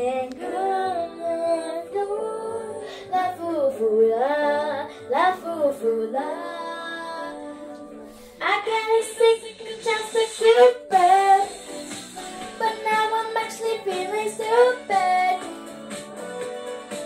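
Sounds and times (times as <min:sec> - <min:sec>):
girl singing into microphone: 0:00.0 - 0:11.6, 0:12.6 - 0:15.6
pop backing track: 0:00.0 - 0:17.0.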